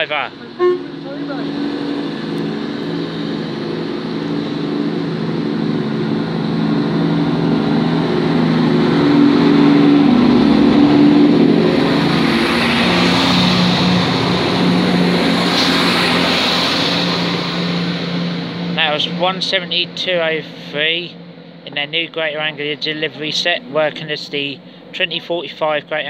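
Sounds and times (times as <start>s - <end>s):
diesel train engines: 0.0s - 26.0s.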